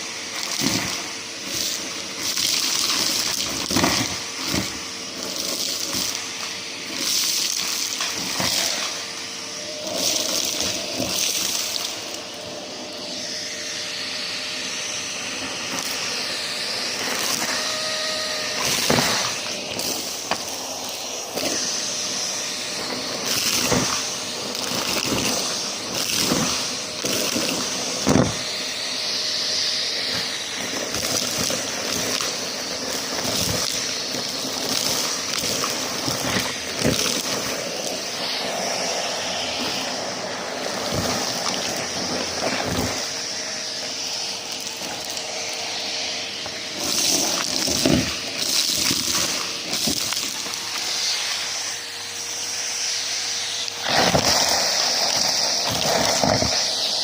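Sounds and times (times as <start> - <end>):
vacuum cleaner suction hiss: 0.0 - 57.0.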